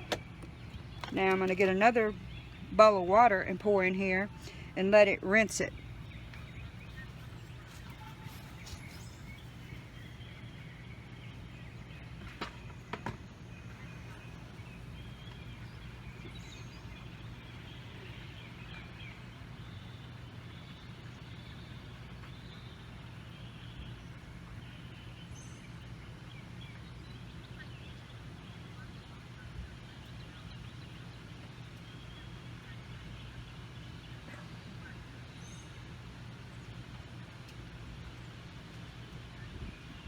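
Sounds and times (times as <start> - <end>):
birds chirping: 0.0 - 40.0
steady low hum: 0.0 - 40.0.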